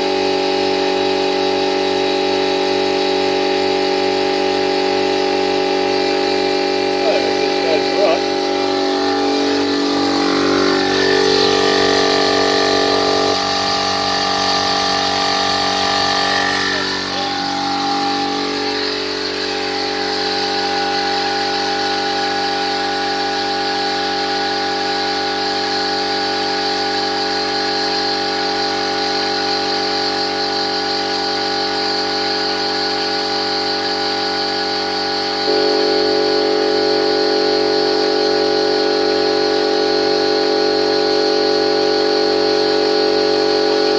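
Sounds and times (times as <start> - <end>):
air compressor running: 0.0 - 43.9.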